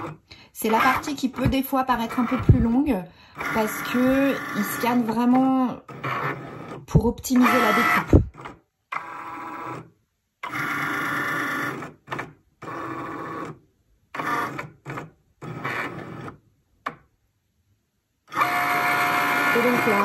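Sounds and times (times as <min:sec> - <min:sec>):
cutting machine motors whirring: 0:00.0 - 0:13.6, 0:14.2 - 0:16.4, 0:18.3 - 0:20.0.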